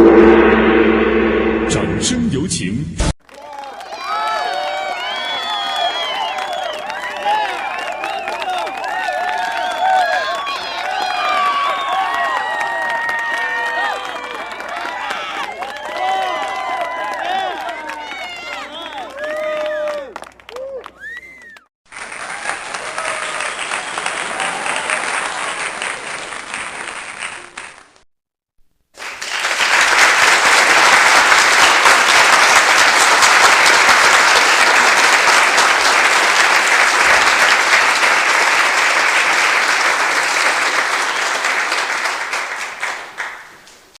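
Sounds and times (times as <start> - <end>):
crowd applause: 3.2 - 27.9, 29.0 - 43.4.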